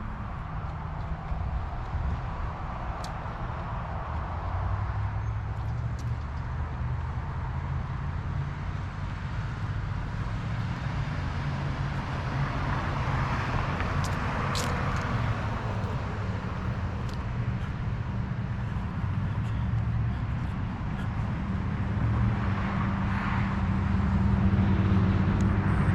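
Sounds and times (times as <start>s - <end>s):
low rumble of traffic: 0.0s - 25.9s.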